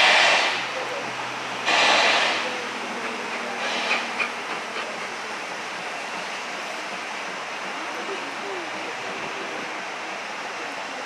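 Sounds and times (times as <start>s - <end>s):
steam locomotive exhaust chuffs: 0.0s - 10.6s
steam hissing: 0.0s - 11.0s.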